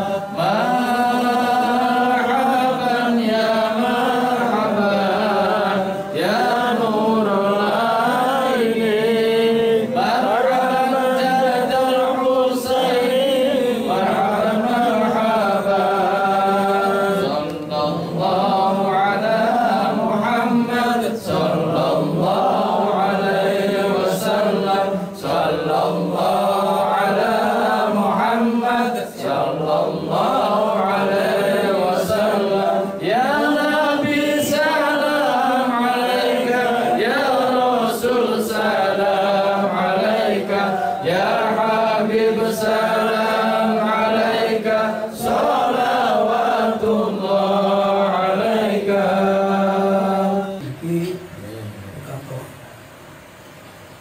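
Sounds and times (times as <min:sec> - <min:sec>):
men chanting together: 0:00.0 - 0:51.3.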